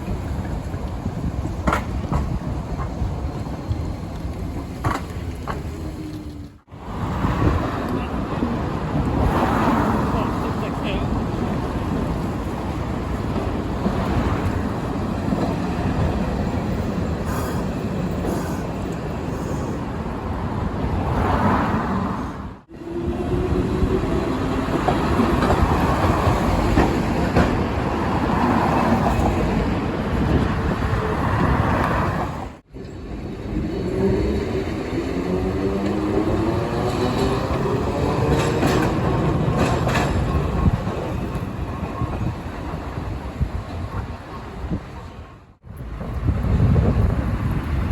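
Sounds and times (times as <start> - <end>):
electric train on rails: 0.0 - 47.9.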